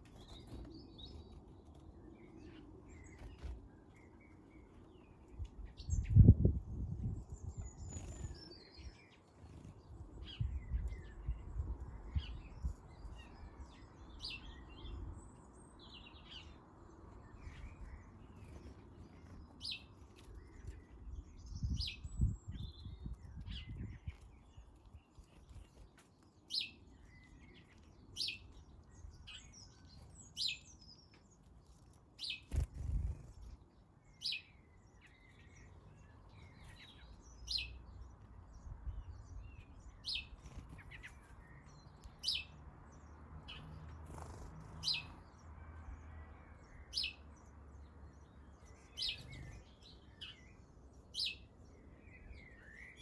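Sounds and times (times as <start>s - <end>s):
birds chirping: 7.2s - 53.0s.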